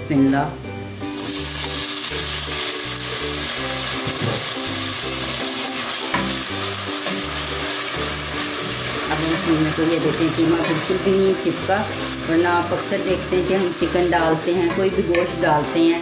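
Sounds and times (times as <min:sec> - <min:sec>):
soft background music: 0:00.0 - 0:16.0
meat sizzling in oil: 0:00.6 - 0:16.0.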